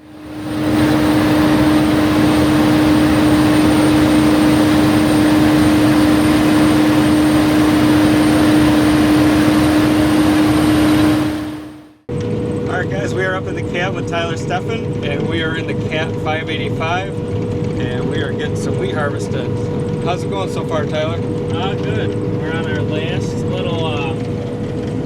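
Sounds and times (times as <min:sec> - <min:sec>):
harvest machinery engine running: 0:00.0 - 0:25.0.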